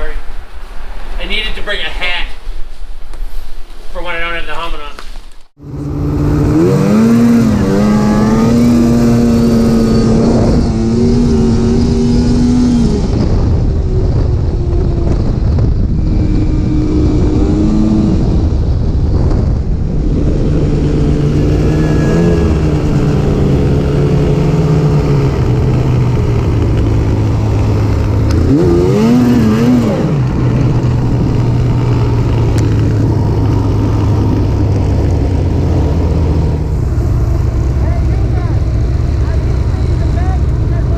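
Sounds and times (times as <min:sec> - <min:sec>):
snowmobile engine running: 0:05.6 - 0:40.9.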